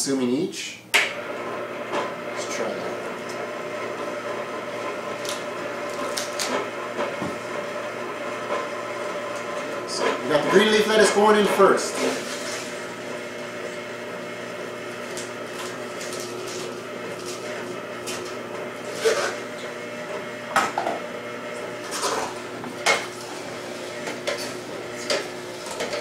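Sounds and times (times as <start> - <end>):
juicer humming: 0.9 - 26.0.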